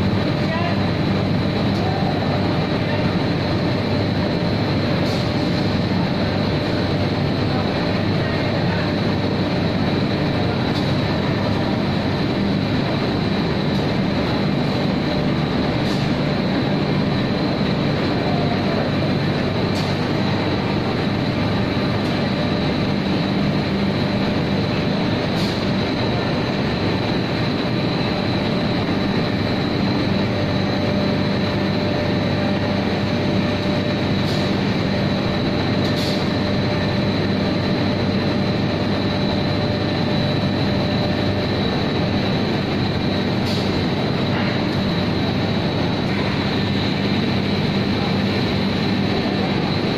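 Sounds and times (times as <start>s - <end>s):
high machine whine: 0.0s - 49.9s
machine hum: 0.0s - 49.9s.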